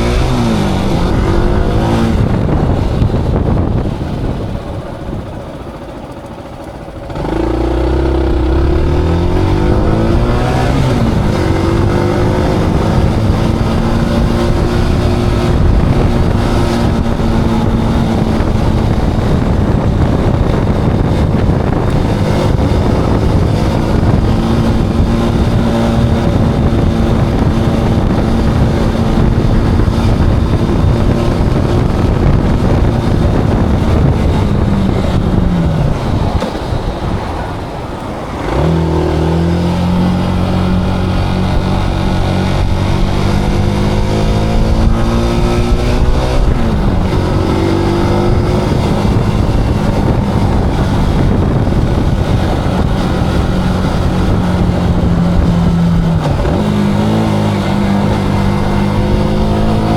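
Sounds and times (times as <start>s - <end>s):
motorcycle engine through gear changes: 0.0s - 59.9s
road and wind noise: 0.0s - 59.9s.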